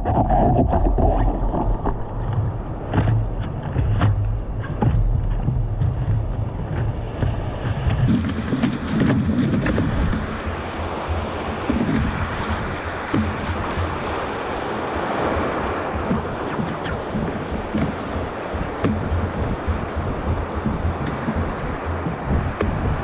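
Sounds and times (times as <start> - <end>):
low rumble: 0.0 - 23.0
wind buffeting microphone: 0.0 - 23.0
ocean surf: 1.1 - 23.0.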